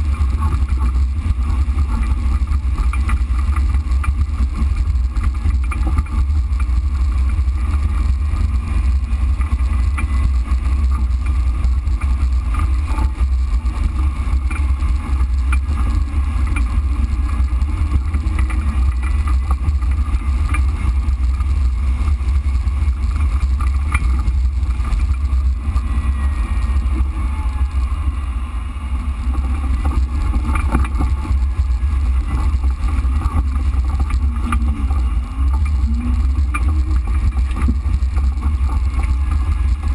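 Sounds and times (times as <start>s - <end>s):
low engine rumble: 0.0s - 39.9s.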